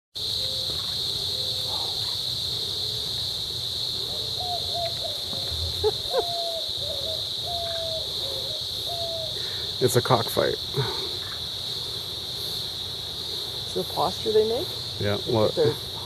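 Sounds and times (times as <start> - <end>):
insects chorus: 0.2 - 16.0.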